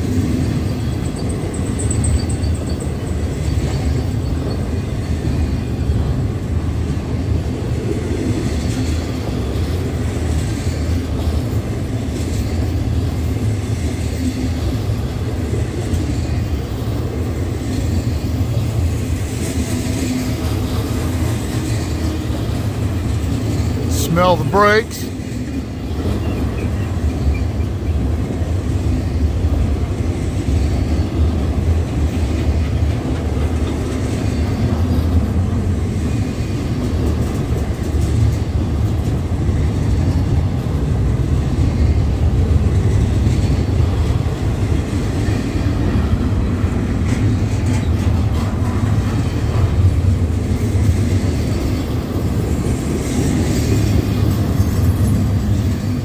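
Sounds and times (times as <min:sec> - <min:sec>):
clickety-clack of train cars: 0:00.0 - 0:56.0
train wheels rumbling on rail: 0:00.0 - 0:56.0.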